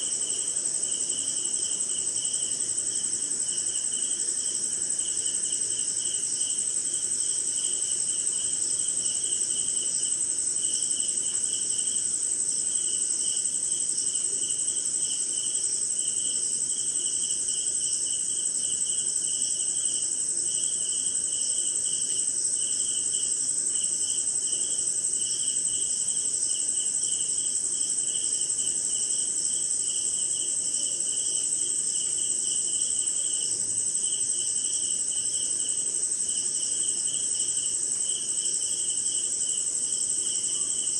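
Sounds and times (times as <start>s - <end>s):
high insect trill: 0.0s - 40.9s.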